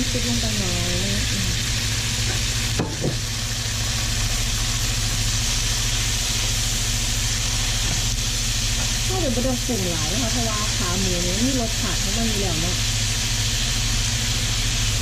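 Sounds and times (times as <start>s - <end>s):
low steady hum: 0.0s - 15.0s
meat sizzling in a pan: 0.0s - 15.0s.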